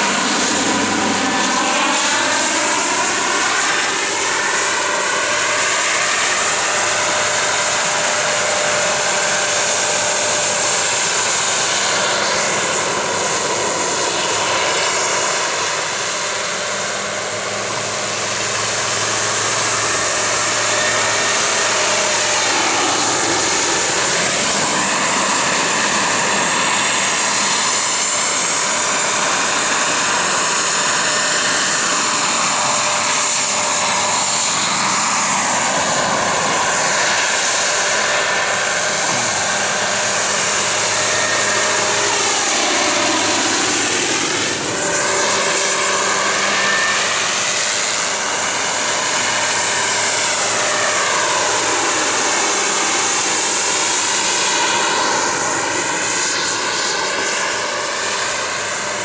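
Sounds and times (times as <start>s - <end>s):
helicopter engine and rotors whine: 0.0s - 59.0s.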